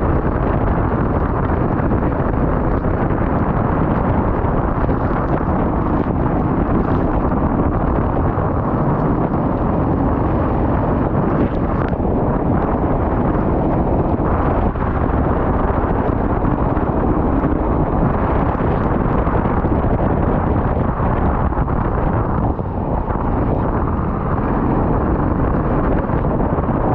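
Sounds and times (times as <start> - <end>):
wind buffeting onboard go-kart: 0.0 - 26.9.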